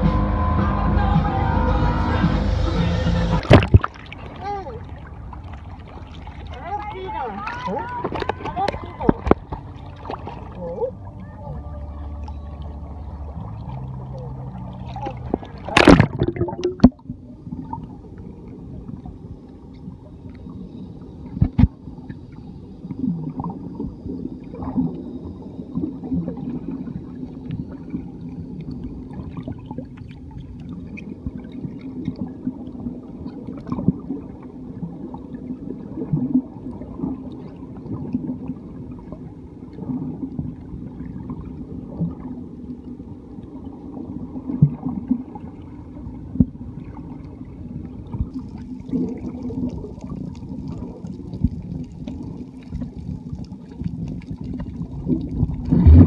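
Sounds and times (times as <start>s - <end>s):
underwater low rumble: 0.0s - 56.0s.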